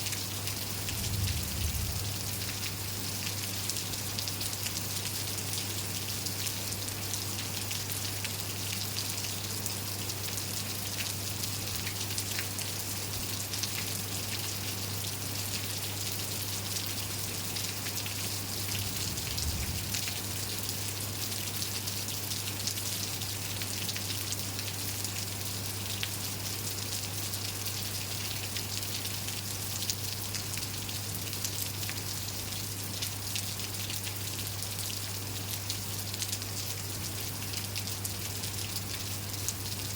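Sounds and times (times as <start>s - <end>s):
raindrops ticking on surfaces: 0.0s - 39.9s
steady rain falling: 0.0s - 39.9s.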